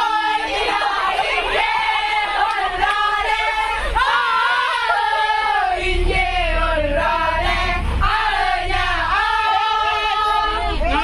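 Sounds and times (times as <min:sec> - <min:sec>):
group singing a carol: 0:00.0 - 0:11.0
low rumble: 0:00.6 - 0:11.0.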